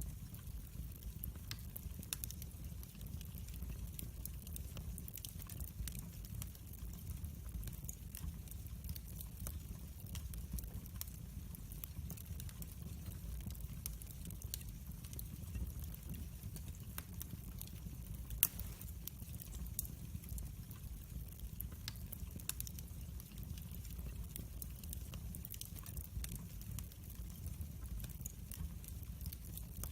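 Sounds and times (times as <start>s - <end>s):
low rumble of flames: 0.0s - 29.9s
wood fire crackling and popping: 0.0s - 29.9s.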